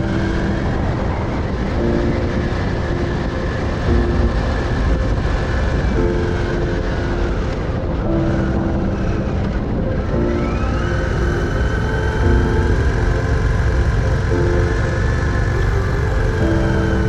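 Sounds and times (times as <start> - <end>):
motorcycle engine cruising: 0.0 - 17.0
wind rushing over microphone: 0.0 - 17.0.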